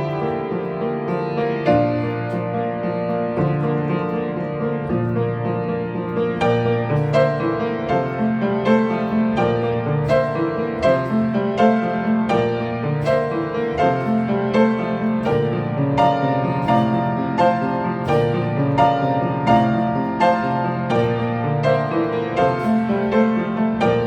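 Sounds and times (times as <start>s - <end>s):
out of tune upright piano: 0.0s - 24.0s.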